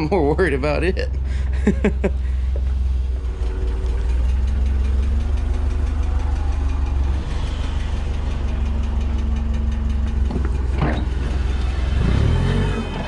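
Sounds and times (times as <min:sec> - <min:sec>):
forklift engine rumbling: 0:00.0 - 0:13.0.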